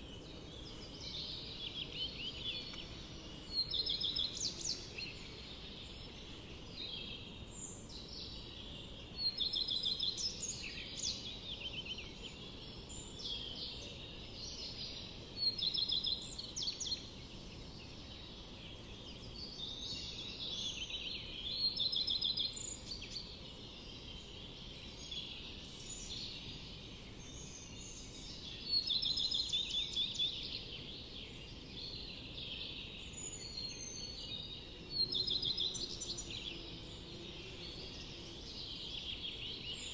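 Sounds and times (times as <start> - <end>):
low background hiss: 0.0 - 39.9
songbirds trilling: 0.0 - 39.9.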